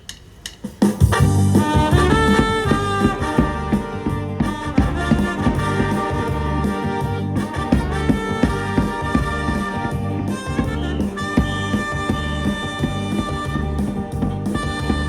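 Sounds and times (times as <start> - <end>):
drum hits: 0.0 - 15.0
brass melody: 1.0 - 15.0
bass line: 1.1 - 15.0.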